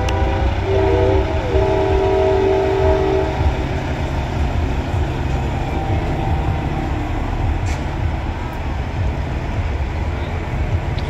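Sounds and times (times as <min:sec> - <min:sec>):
diesel truck engines rumbling: 0:00.0 - 0:11.0.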